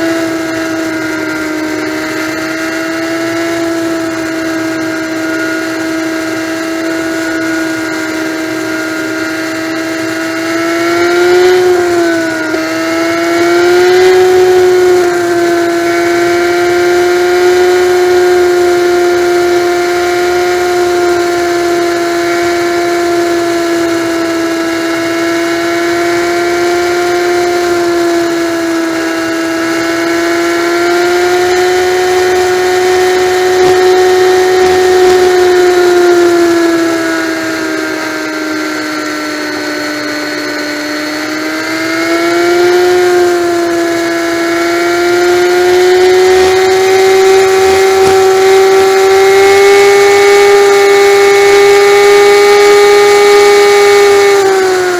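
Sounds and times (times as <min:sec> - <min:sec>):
motorcycle engine whining: 0:00.0 - 0:54.9.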